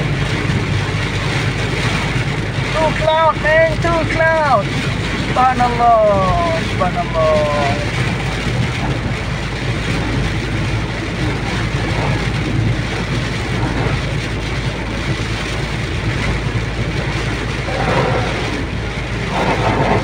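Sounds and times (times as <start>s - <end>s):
car engine running: 0.0s - 20.0s
heavy low rumble: 0.0s - 20.0s
rain on car body: 0.0s - 20.0s
tyres hissing on wet road: 0.0s - 20.0s.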